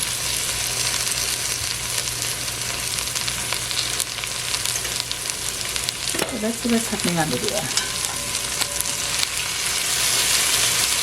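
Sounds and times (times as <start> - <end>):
okra sizzling in oil: 0.0 - 11.0.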